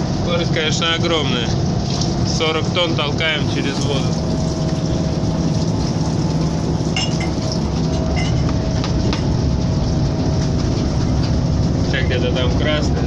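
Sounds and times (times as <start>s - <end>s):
hull rushing through water: 0.0s - 13.0s.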